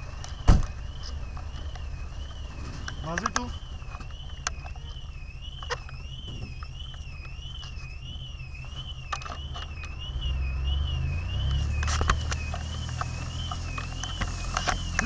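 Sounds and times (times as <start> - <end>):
fire engine motor drone: 0.0 - 15.0
warbling electronic alarm tone: 0.0 - 15.0.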